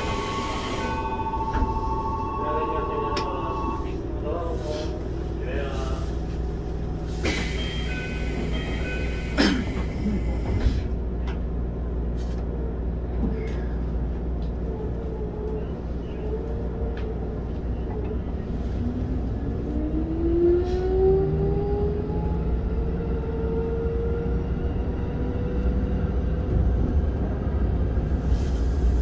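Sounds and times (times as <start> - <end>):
train low rumble: 0.0 - 29.0.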